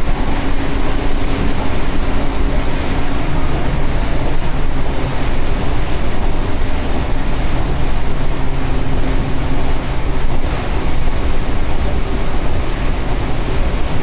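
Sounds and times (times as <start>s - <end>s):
low motor hum: 0.0s - 14.0s
train wheels rumbling on rail: 0.0s - 14.0s.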